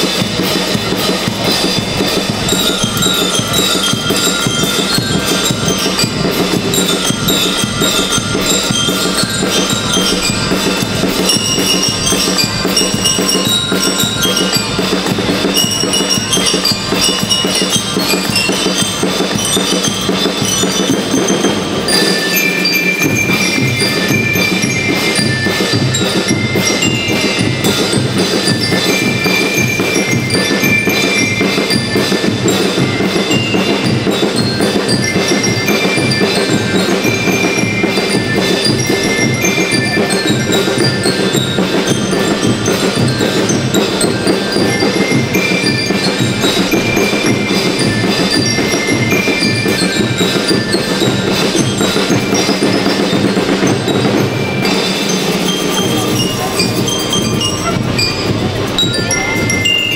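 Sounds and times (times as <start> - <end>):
bell lyre melody: 0.0 - 59.9
drums beating fast: 0.0 - 59.9.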